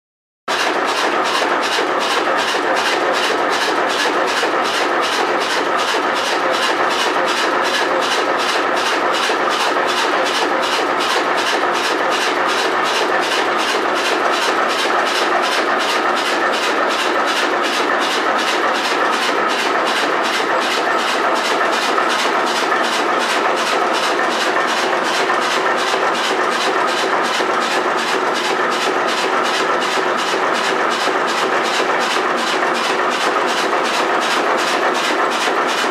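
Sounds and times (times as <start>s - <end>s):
ship's engine running steadily: 0.6s - 35.9s.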